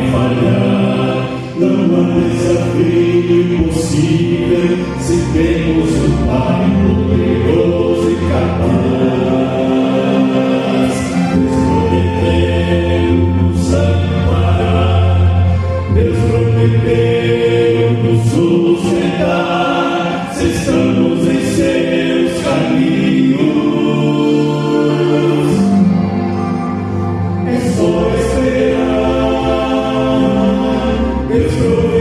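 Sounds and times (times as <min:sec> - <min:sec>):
vocal quartet singing a hymn: 0:00.0 - 0:32.0.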